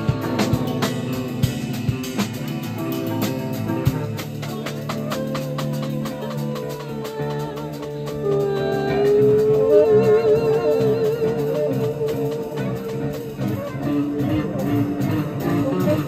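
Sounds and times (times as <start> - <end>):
jazz band playing: 0.0 - 16.0.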